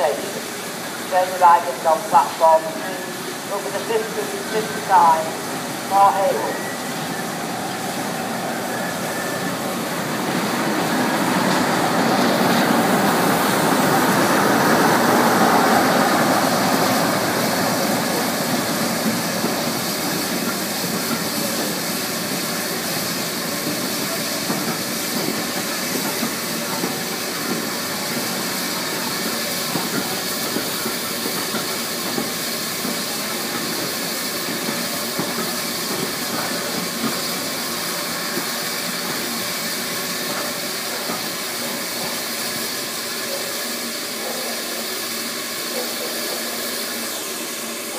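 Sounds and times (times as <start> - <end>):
diesel locomotive engine: 0.0 - 47.9
steam hissing: 0.0 - 47.9.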